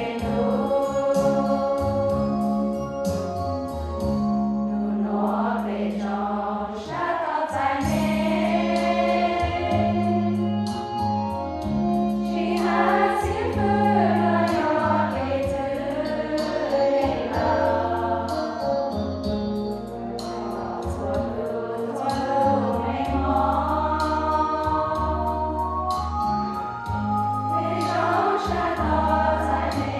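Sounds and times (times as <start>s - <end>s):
women's choir singing a hymn: 0.0s - 2.5s, 4.7s - 11.0s, 11.6s - 19.1s, 19.9s - 29.9s.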